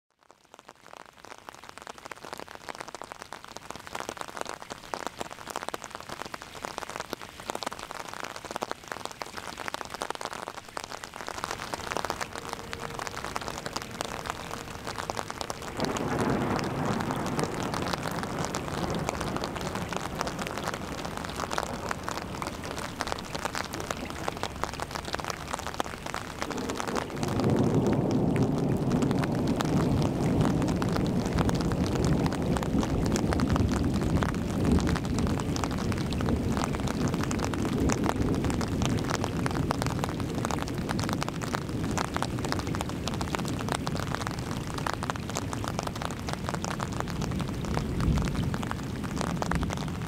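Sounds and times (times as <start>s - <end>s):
rain drumming on an umbrella: 0.1s - 50.0s.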